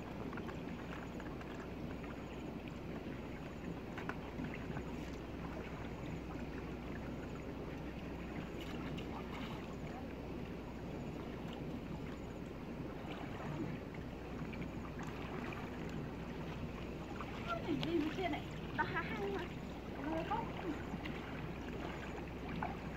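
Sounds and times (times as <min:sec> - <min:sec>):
river water sloshing: 0:00.0 - 0:22.9
small water splashes: 0:00.0 - 0:22.9.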